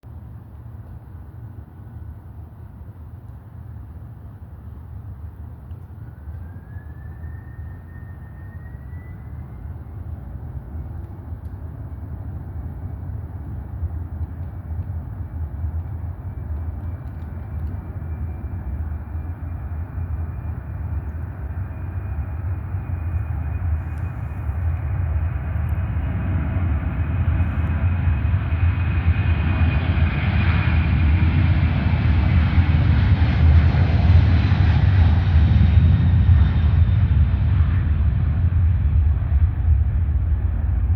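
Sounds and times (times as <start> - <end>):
jet engines spooling up: 5.7 - 40.9.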